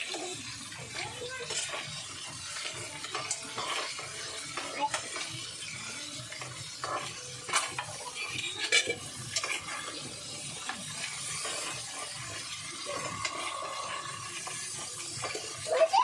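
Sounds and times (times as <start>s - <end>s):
steady sizzle: 0.0s - 16.0s
utensil scraping a pot: 0.0s - 16.0s.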